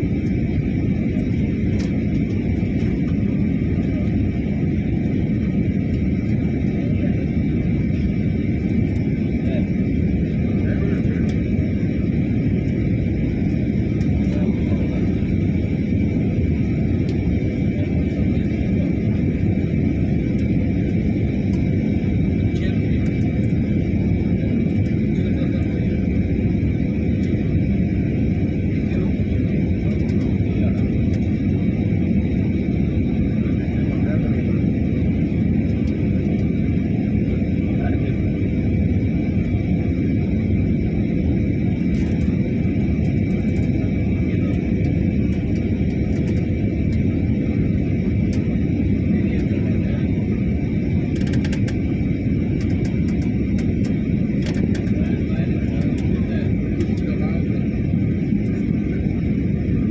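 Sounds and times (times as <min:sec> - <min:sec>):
airliner engines and airflow rumble: 0:00.0 - 0:59.9.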